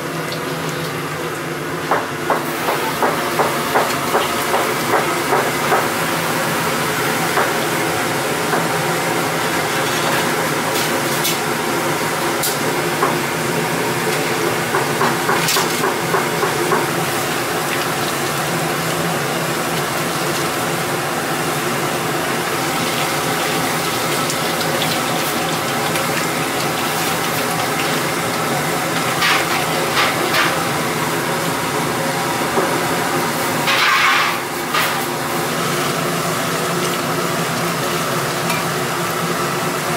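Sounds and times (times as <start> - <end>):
liquid boiling and bubbling: 0.0 - 39.9.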